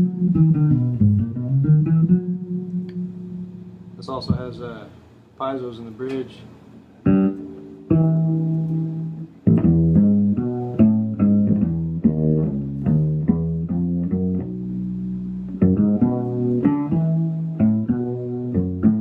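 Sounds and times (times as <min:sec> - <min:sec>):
fretless bass guitar plucked notes: 0:00.0 - 0:04.6, 0:07.0 - 0:19.0.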